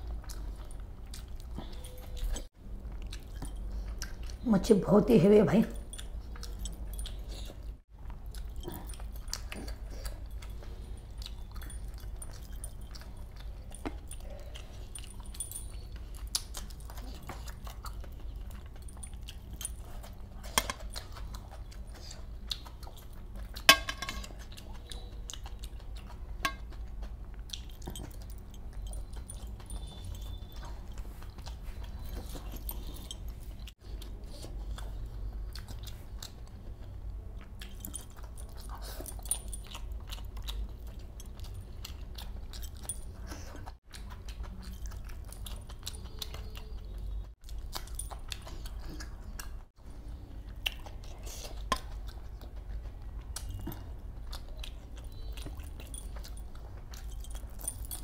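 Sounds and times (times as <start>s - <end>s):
man chewing and smacking: 0.0s - 4.4s, 5.8s - 58.0s.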